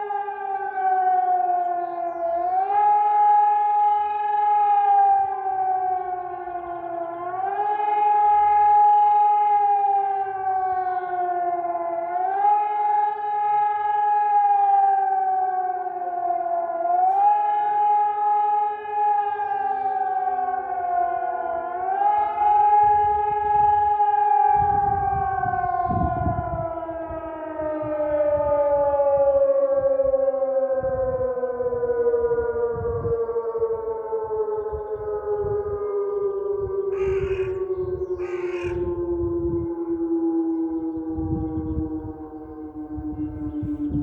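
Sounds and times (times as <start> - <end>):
siren rising and falling wail: 0.0 - 44.0.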